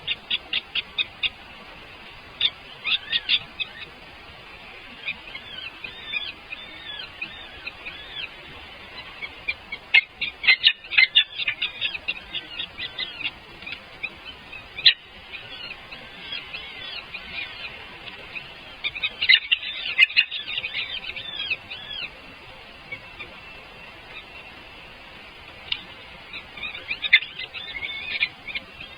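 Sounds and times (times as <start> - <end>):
baby birds cheeping: 0.0 - 28.9.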